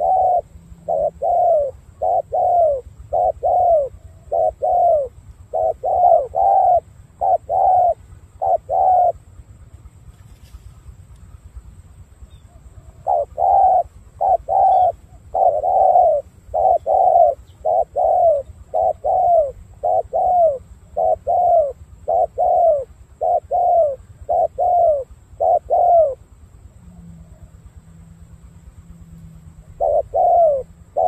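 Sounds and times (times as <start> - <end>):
dove cooing: 0.0 - 9.7, 12.2 - 27.6, 29.6 - 31.0.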